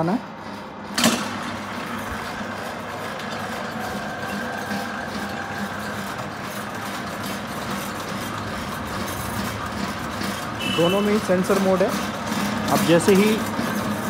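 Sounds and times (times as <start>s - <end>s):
mixer motor running with whine: 0.0s - 14.0s.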